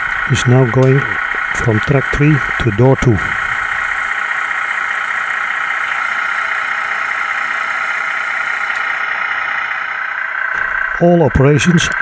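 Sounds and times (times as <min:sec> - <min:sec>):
model train humming: 0:00.0 - 0:12.0.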